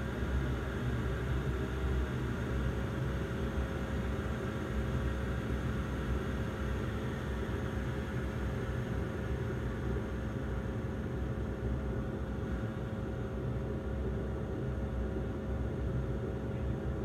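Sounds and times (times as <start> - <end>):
turboprop engines droning in cabin: 0.0 - 17.0.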